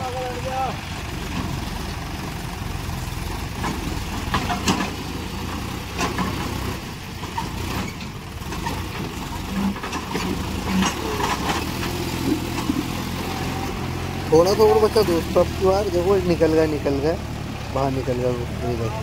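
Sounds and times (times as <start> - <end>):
tractor diesel engine straining: 0.0 - 19.0.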